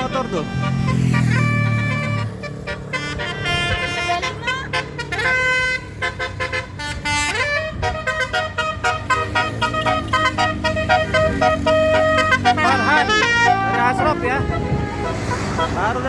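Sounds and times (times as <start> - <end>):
low rumble of traffic: 0.0 - 16.0
multi-tone melodic bus horn: 0.0 - 16.0.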